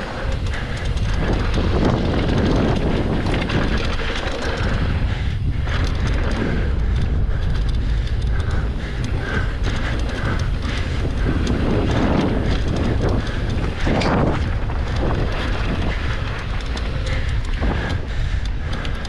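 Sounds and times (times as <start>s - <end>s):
bike clicks and rattles: 0.0s - 19.0s
tyres rolling: 0.0s - 19.0s
wind buffeting microphone: 0.0s - 19.0s.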